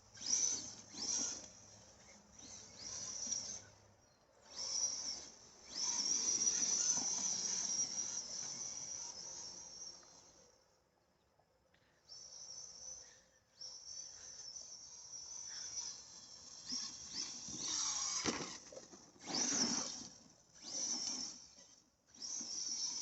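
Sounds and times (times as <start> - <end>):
electric motor whining: 0.0 - 10.7, 12.1 - 23.0.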